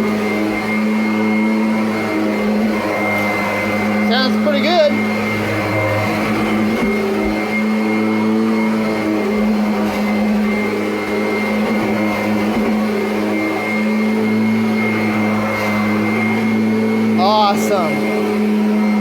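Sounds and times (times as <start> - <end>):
vacuum cleaner motor whining: 0.0 - 19.0.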